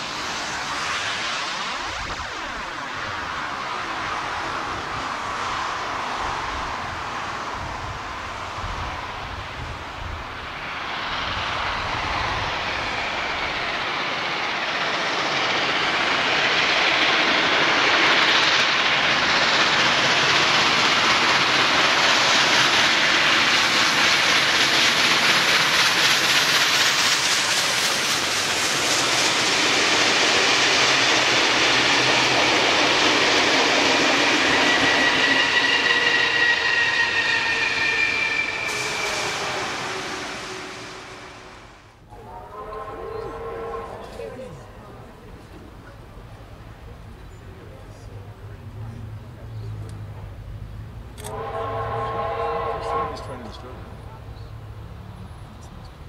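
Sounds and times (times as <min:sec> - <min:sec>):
steam locomotive working hard: 0:00.0 - 0:56.0.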